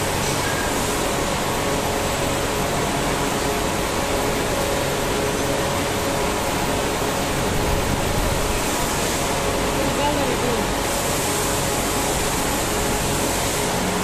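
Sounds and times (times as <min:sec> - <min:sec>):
workshop machinery whirring: 0:00.0 - 0:14.0.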